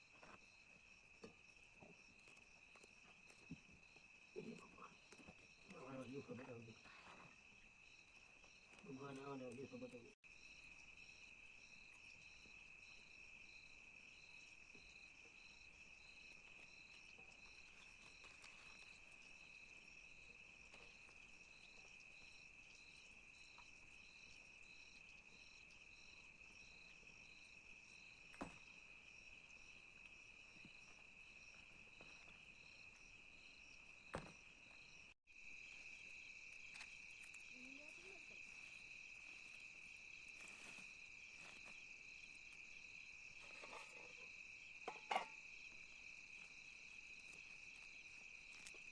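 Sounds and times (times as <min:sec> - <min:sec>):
insect chirring: 0:00.3 - 0:48.9.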